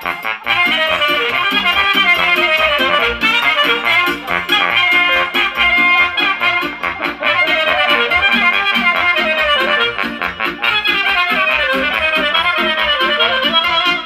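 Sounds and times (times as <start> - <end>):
lively dance music: 0.0 - 14.0.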